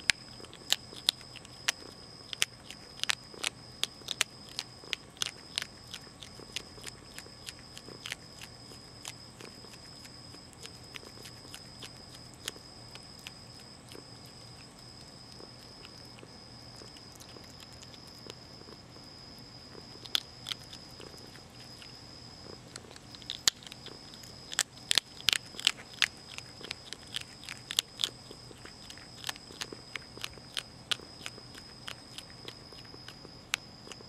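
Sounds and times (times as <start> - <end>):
animal crunching dry kibble: 0.0 - 34.0.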